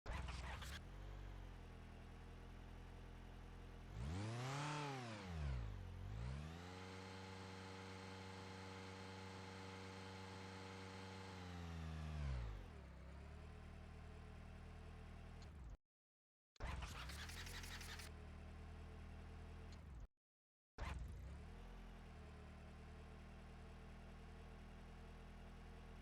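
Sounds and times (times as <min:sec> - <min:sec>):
car engine idling and revving: 0:00.1 - 0:15.8, 0:16.6 - 0:20.1, 0:20.8 - 0:26.0.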